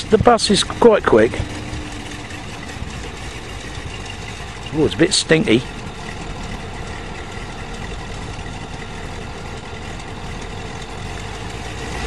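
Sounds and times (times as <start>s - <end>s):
engines idling: 0.0s - 12.0s.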